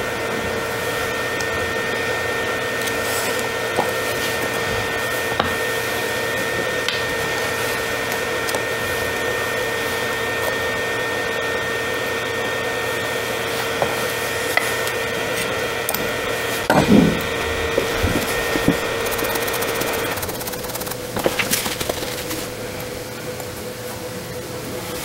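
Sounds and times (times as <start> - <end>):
hot air station fan rushing: 0.0 - 24.9.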